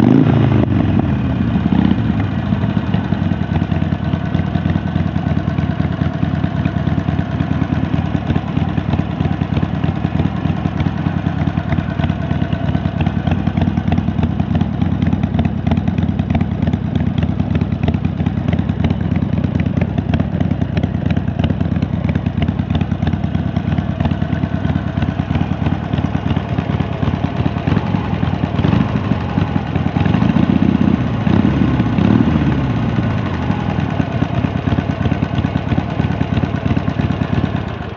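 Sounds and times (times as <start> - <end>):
motorcycle idling and revving: 0.0 - 37.9.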